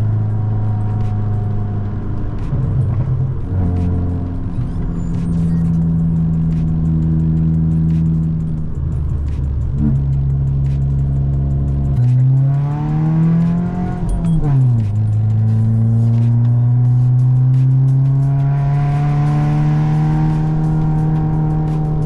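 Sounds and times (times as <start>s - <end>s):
car engine driving and revving: 0.0s - 22.0s.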